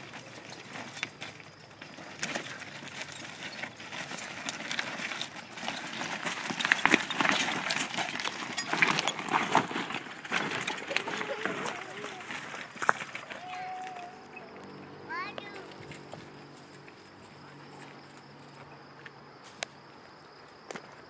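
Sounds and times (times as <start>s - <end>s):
footsteps crunching on stones: 0.0s - 21.0s
handcart wheels rolling over stones: 0.0s - 21.0s.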